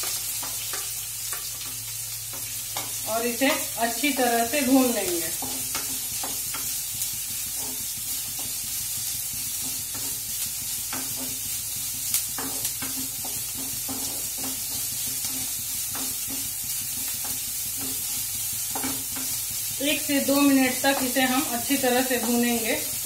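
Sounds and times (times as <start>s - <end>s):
onions sizzling in oil: 0.0s - 23.0s
spatula stirring and scraping: 2.3s - 23.0s.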